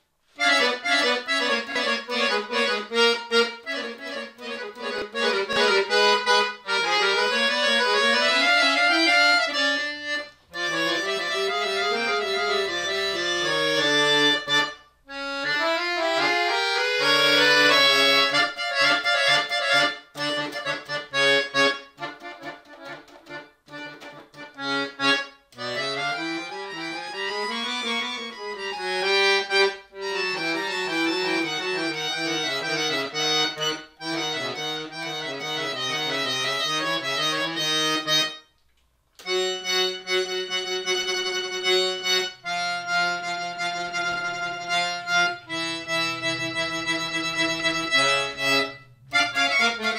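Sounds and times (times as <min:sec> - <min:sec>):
button accordion playing: 0:00.0 - 0:38.5, 0:39.2 - 0:49.9.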